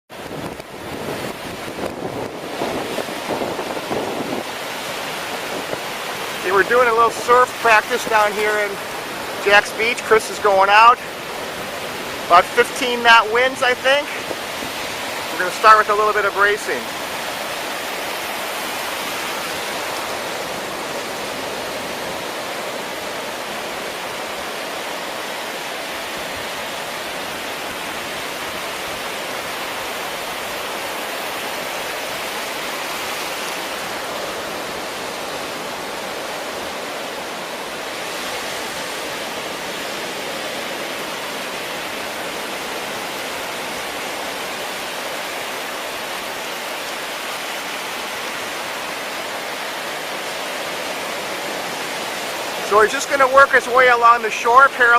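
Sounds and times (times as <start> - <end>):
breaking surf: 0.1 - 54.9
wind: 0.1 - 54.9.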